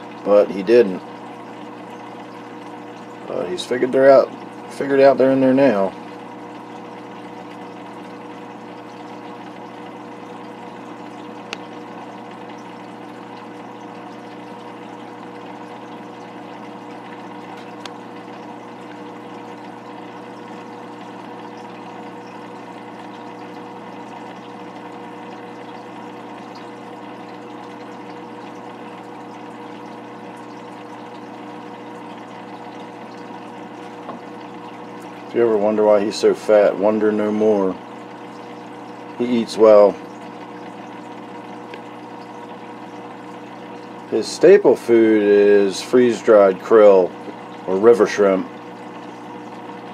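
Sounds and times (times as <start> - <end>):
aquarium filter hum: 0.0 - 49.9.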